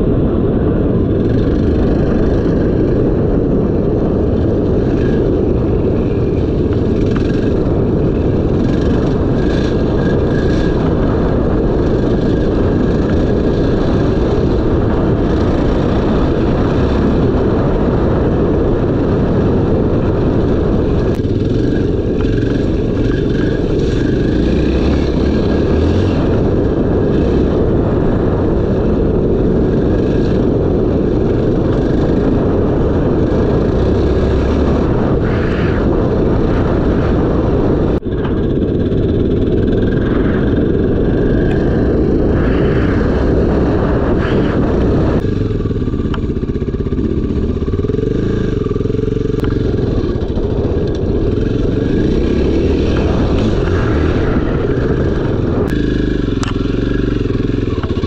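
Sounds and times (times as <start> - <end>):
motorcycle engine running: 0.0 - 58.0
wind and road rush: 0.0 - 58.0.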